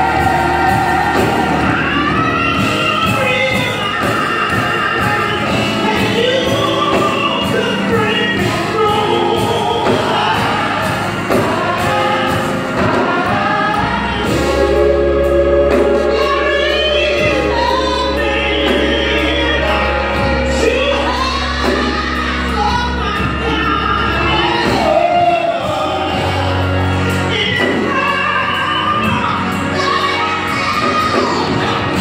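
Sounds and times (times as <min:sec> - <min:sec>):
choir voices: 0:00.0 - 0:32.0
woman singing gospel lead: 0:00.0 - 0:32.0.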